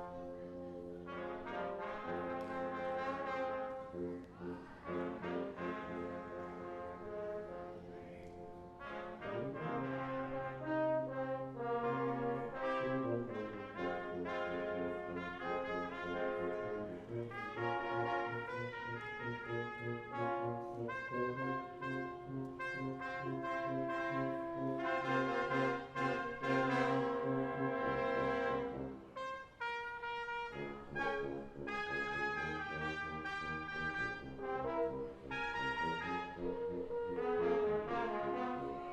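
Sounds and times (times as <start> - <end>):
brass quintet playing: 0.0 - 38.9
tuba bass line: 0.0 - 38.9.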